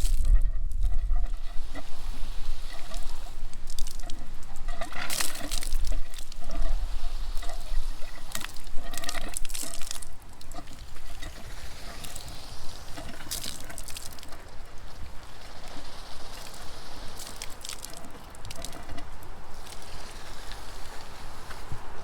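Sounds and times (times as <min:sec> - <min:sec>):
spring water gushing and splashing: 0:01.3 - 0:22.0.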